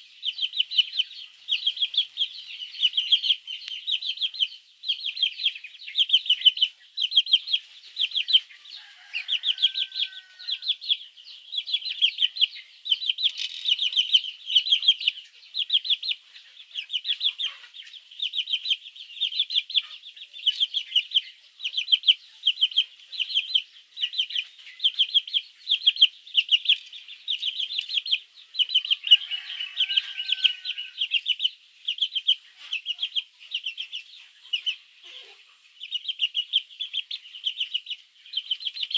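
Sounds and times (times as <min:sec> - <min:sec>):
baby chicks cheeping: 0:00.0 - 0:38.9.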